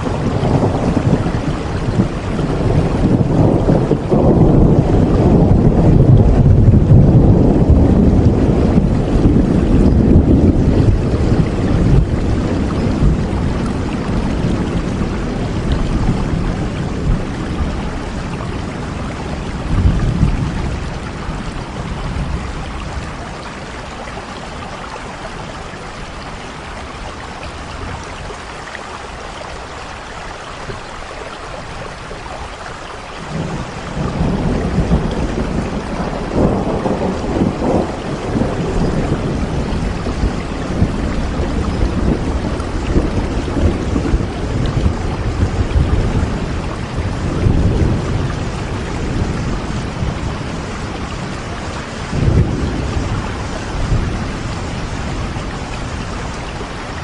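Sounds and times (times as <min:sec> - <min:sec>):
thunder rumbling: 0:00.0 - 0:28.6, 0:30.6 - 0:57.0
steady rain: 0:00.0 - 0:57.0.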